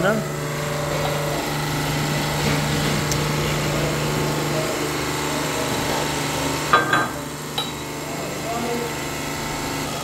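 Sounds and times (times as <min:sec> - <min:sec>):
workshop machinery humming: 0:00.0 - 0:10.0.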